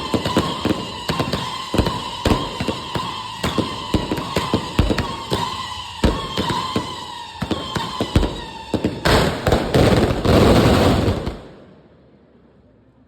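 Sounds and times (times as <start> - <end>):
dense crackling burst: 0.0 - 11.6
firecrackers banging: 0.0 - 11.7.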